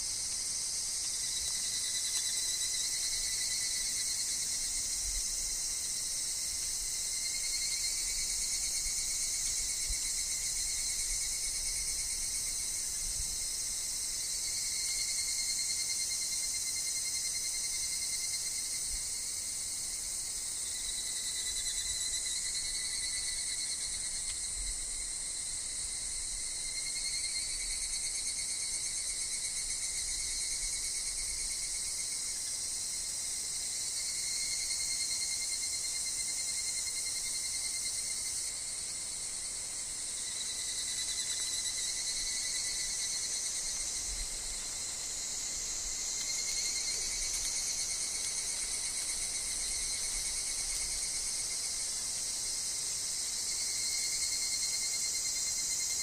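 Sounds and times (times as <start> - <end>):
cicada calls: 0.0 - 56.0
insect chorus: 0.0 - 56.0.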